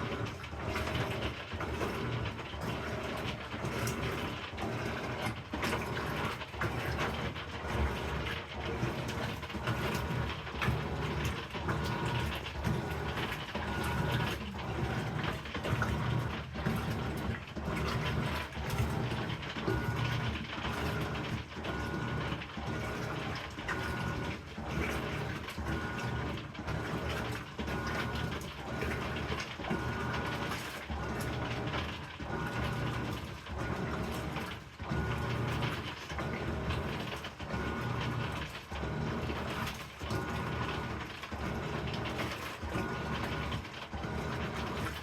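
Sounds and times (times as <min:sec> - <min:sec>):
washing machine agitating: 0:00.0 - 0:45.0.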